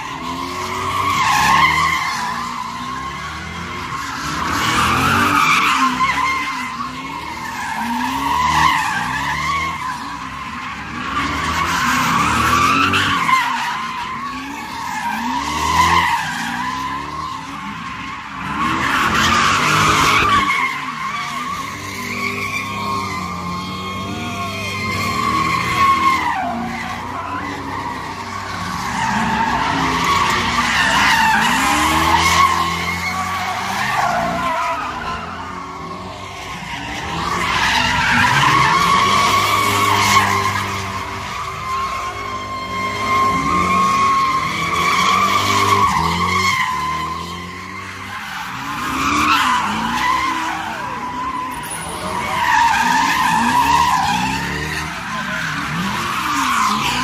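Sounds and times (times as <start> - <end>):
tires squealing: 0.0 - 57.0.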